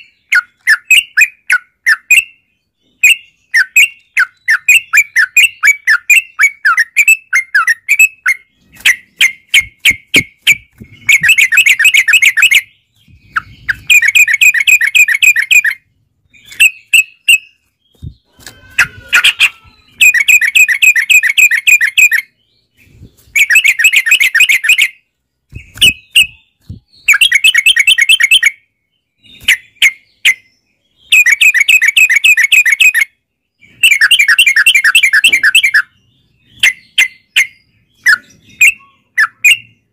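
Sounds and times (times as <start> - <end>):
bird chirps and rolling song: 0.0 - 39.9.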